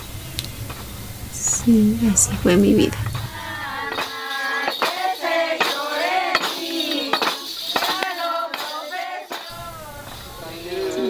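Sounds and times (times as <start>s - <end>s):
jingle bells jingling: 1.3s - 11.0s
women singing together: 1.4s - 11.0s.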